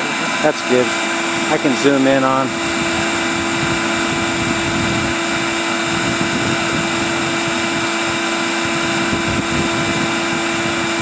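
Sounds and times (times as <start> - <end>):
bee vacuum motor running: 0.0 - 11.0.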